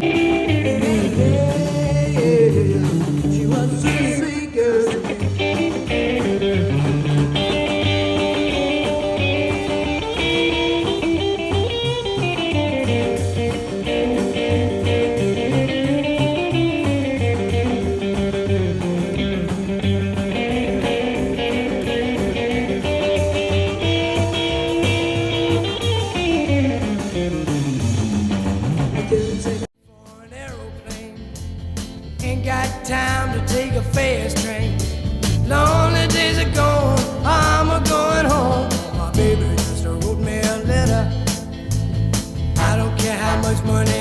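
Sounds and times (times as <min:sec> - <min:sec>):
electric guitar lead: 0:00.0 - 0:29.6, 0:30.6 - 0:44.0
bass line: 0:00.0 - 0:44.0.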